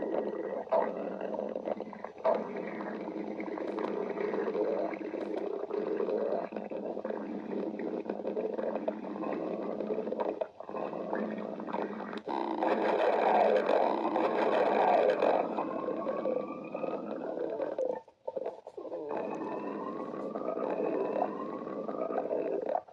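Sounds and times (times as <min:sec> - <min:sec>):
stomach growling and gurgling: 0:00.0 - 0:22.9.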